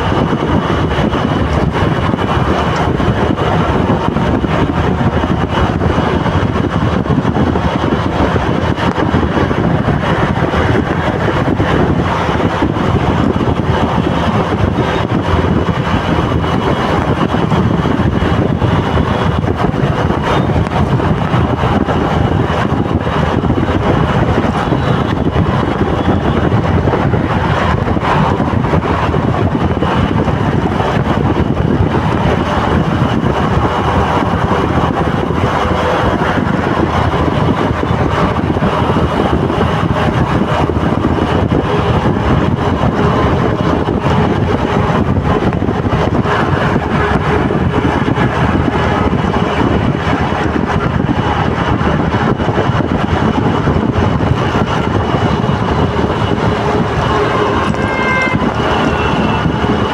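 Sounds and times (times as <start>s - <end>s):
road traffic noise: 0.0s - 59.9s
wind rushing over microphone: 0.0s - 59.9s.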